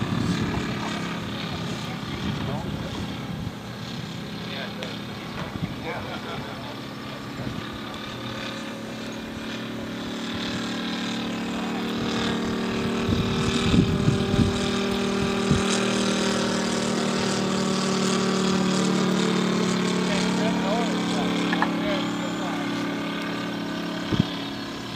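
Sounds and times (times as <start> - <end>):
model airplane engine running: 0.0 - 24.9.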